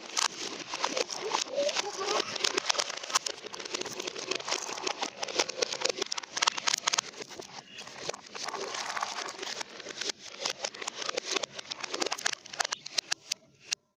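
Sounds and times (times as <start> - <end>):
marbles clattering down a run: 0.1 - 13.4.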